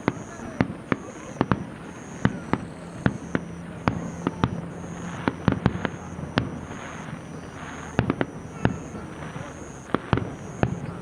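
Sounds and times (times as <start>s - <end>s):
firework shells bursting: 0.0s - 11.0s
fireworks crackling: 0.0s - 11.0s.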